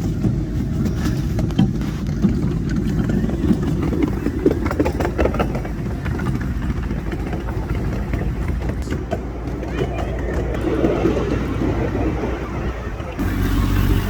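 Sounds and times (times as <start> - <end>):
miniature train rumbling: 0.0 - 14.0.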